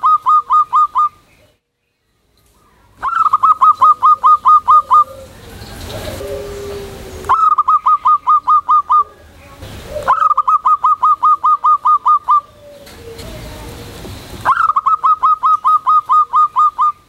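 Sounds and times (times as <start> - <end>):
dove cooing: 0.0 - 1.2, 3.0 - 17.0.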